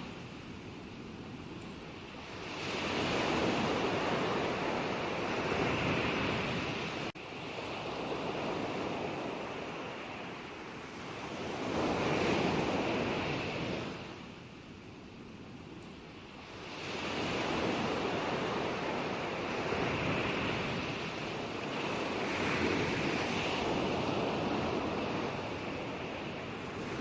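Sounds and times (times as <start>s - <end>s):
ocean waves breaking on shore: 1.8s - 14.7s, 16.0s - 27.0s.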